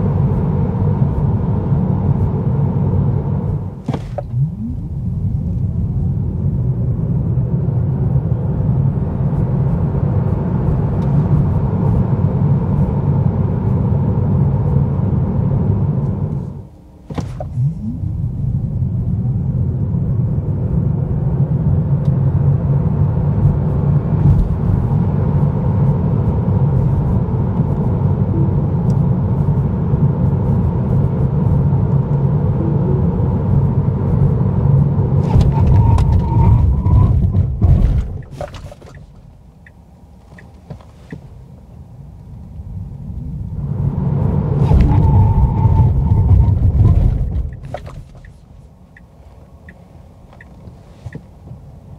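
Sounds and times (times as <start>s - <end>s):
tyre and road noise in cabin: 0.0s - 51.9s.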